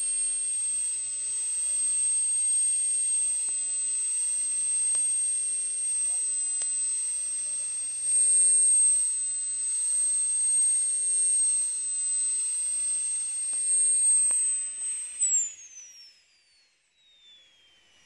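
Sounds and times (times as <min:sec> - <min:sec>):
gas turbine engine whine: 0:00.0 - 0:15.3.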